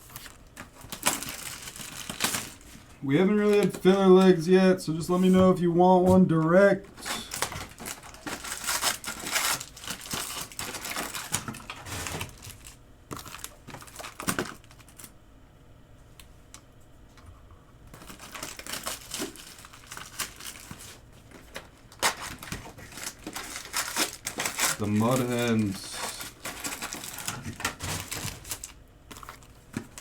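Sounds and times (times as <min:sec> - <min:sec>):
foil wrappers crinkling and tearing: 0:00.0 - 0:04.1, 0:07.0 - 0:15.2, 0:17.9 - 0:30.0.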